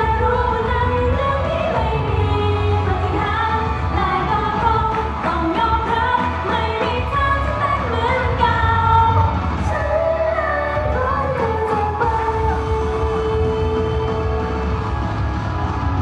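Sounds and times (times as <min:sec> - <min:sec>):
women singing into microphones: 0:00.0 - 0:14.7
pop backing music with bass: 0:00.0 - 0:16.0.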